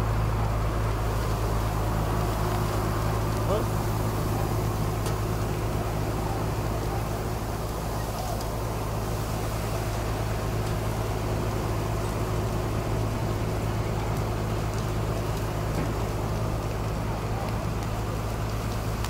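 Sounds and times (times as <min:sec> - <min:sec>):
faint crackles of burning debris: 0:00.0 - 0:19.0
vehicle engine idling: 0:00.0 - 0:19.0.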